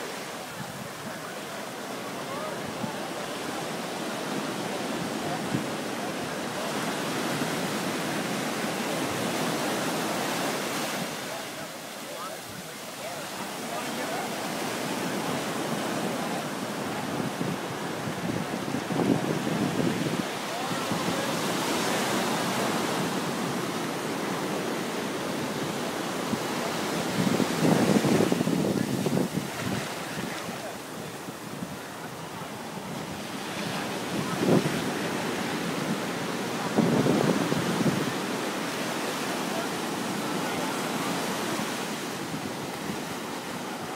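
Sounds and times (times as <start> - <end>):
ocean surf washing up: 0.0 - 43.9
waves breaking on a beach: 0.0 - 43.9.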